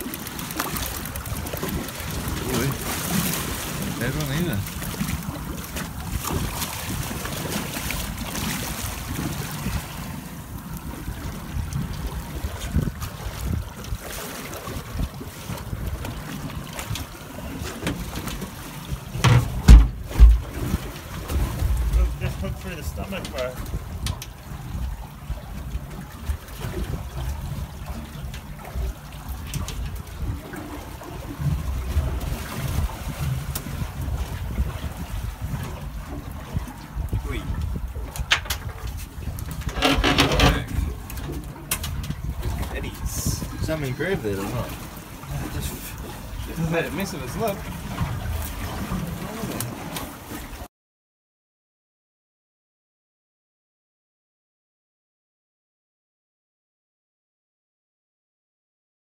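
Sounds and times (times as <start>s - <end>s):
wind rumbling on microphone: 0.0s - 50.6s
water splashing against boat: 0.0s - 50.7s.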